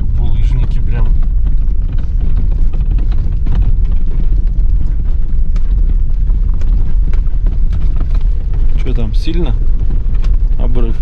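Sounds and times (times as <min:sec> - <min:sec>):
car body knocking and rattling: 0:00.0 - 0:11.0
car rumbling: 0:00.0 - 0:11.0.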